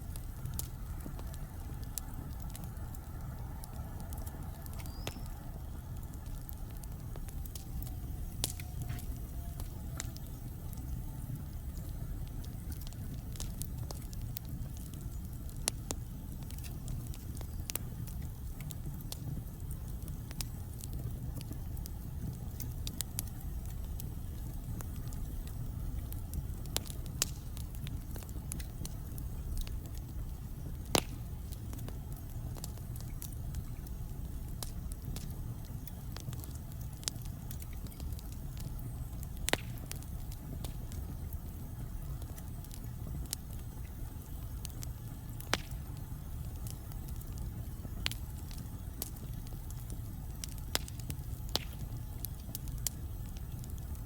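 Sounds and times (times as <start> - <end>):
burning logs crackling and popping: 0.0 - 54.0
fireplace fire rumbling: 0.0 - 54.0.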